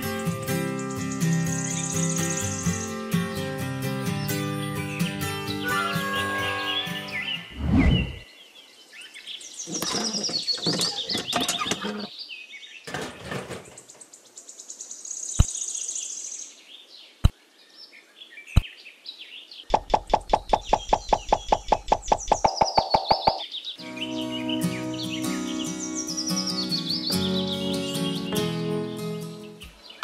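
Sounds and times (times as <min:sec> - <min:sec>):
birds chirping faintly: 0:00.0 - 0:30.0.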